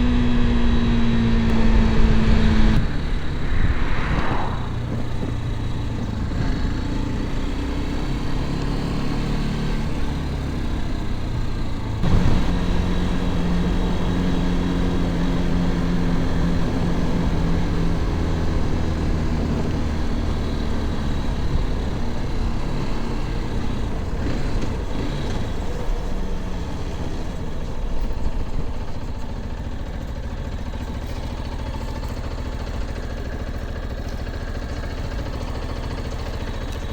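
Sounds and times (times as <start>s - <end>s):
wind and road noise: 0.0s - 33.4s
motorcycle engine running: 0.0s - 36.9s.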